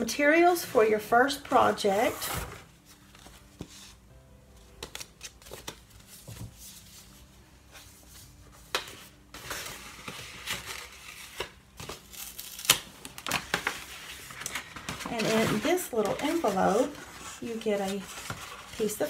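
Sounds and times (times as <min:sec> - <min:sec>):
paper packaging rustling and crinkling: 0:01.5 - 0:19.0.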